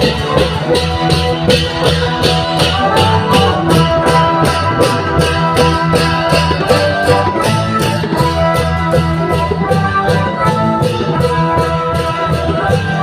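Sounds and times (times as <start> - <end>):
cymbal and drum beat: 0.0 - 13.0
sustained melody: 0.0 - 13.0.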